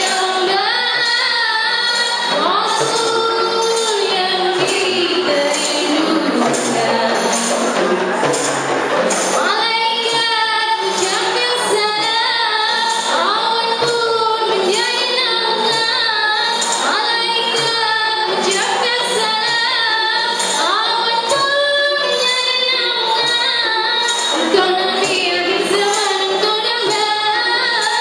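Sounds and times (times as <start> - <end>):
women singing: 0.0 - 8.4, 9.2 - 28.0
frame drums beating: 0.0 - 28.0.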